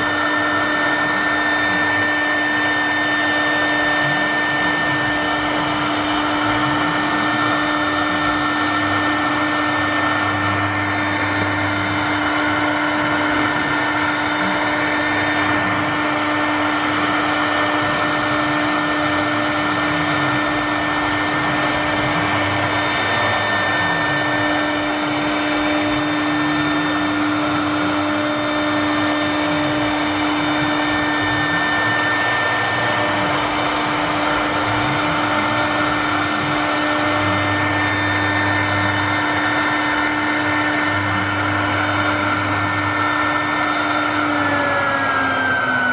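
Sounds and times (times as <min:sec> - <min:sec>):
cutter engraving wood: 0:00.0 - 0:45.9
drive motor whine: 0:00.0 - 0:45.9
router spindle high whine: 0:00.0 - 0:45.9.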